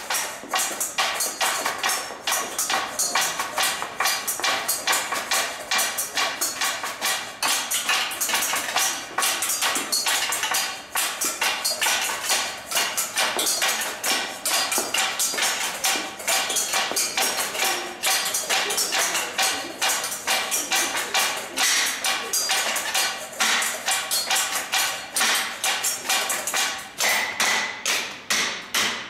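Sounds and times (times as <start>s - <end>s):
percussion on kitchen utensils: 0.0s - 29.0s.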